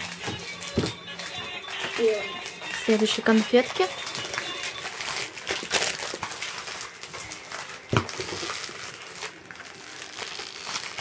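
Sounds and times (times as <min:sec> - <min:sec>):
plastic wrapper rustling: 0:00.0 - 0:11.0.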